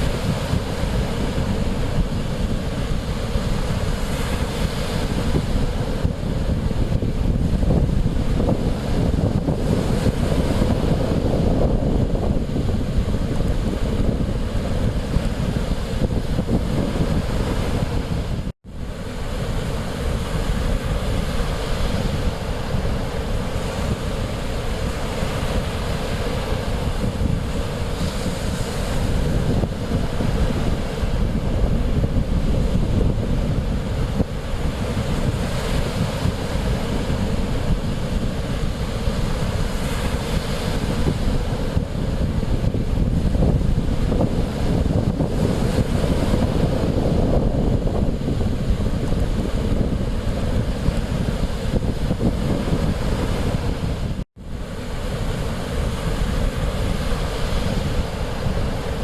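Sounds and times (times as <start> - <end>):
sea waves washing: 0.0 - 59.0
wind buffeting microphone: 0.0 - 59.0.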